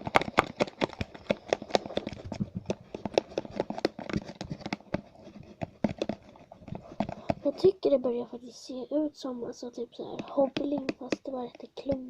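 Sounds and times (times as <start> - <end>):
slime stirred by hand: 0.0 - 7.9, 10.0 - 12.0.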